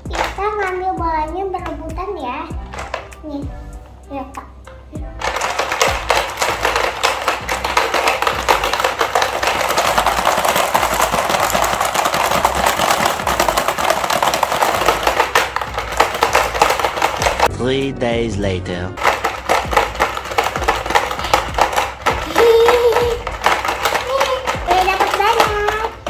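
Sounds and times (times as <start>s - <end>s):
balls rattling: 0.0s - 3.8s, 5.2s - 17.5s, 19.0s - 26.0s.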